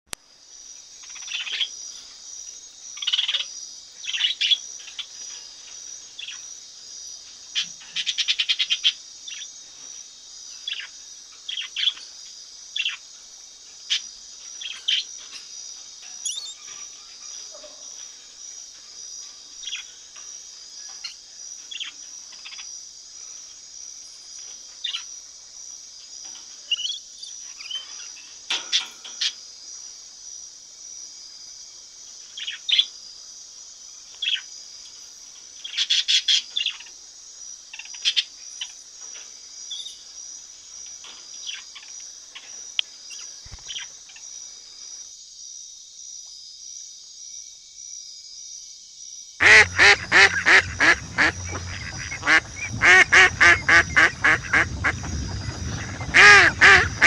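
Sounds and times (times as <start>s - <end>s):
insect chorus: 0.1s - 57.0s.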